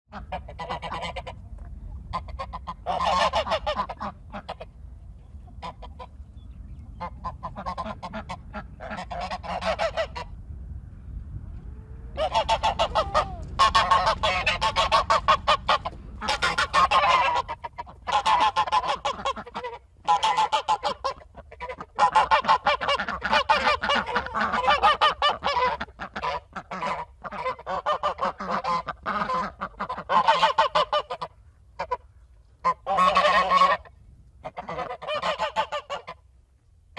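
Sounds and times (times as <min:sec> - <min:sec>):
goose honking: 0:00.1 - 0:01.4, 0:02.1 - 0:04.7, 0:07.0 - 0:10.3, 0:12.1 - 0:36.2.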